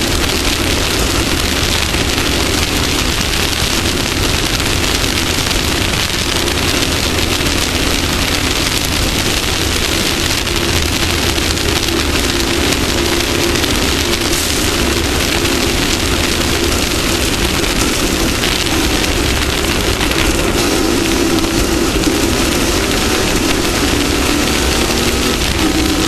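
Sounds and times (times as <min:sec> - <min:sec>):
engine drone: 0:00.0 - 0:26.0
wind and terrain hiss: 0:00.0 - 0:26.0.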